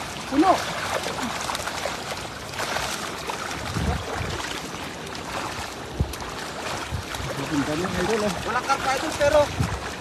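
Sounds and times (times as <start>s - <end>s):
water splashing and churning: 0.0s - 10.0s.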